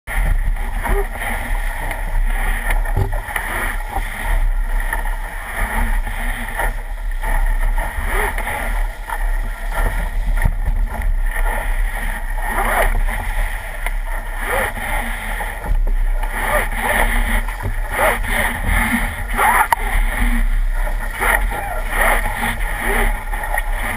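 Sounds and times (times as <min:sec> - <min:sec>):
water splashing along hull: 0:00.1 - 0:23.9.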